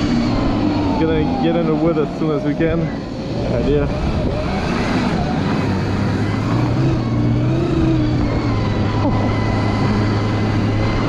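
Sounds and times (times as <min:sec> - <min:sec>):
drivetrain and track hum: 0:00.0 - 0:11.0
electric motor whine: 0:00.0 - 0:11.0.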